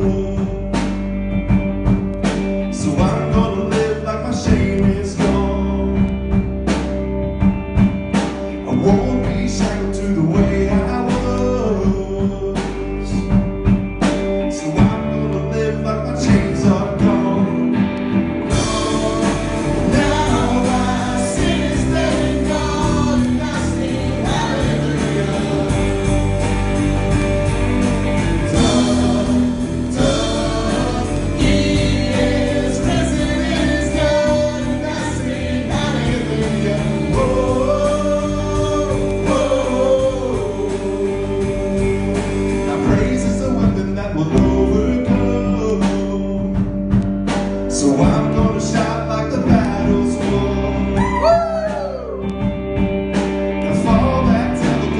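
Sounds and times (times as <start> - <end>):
worship song with band: 0.0 - 54.9.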